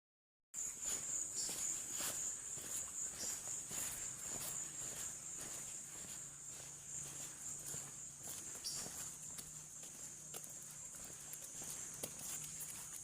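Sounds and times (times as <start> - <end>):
insects chirring: 0.6 - 13.0.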